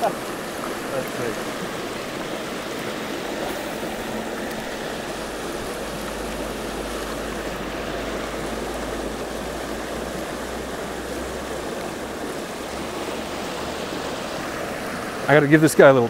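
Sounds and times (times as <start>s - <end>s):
water rushing over a weir: 0.0s - 16.0s.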